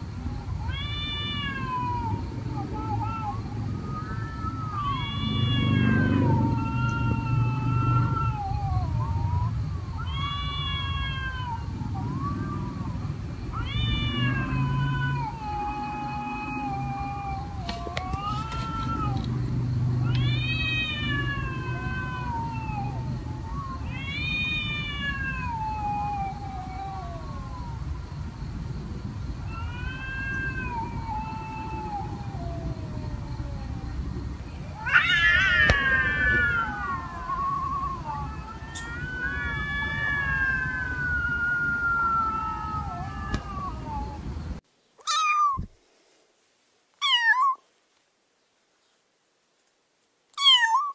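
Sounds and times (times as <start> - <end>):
cat meowing: 0.6 - 19.3, 20.0 - 27.8, 29.4 - 33.8, 34.7 - 44.2, 45.0 - 45.7, 47.0 - 47.6, 50.3 - 50.9.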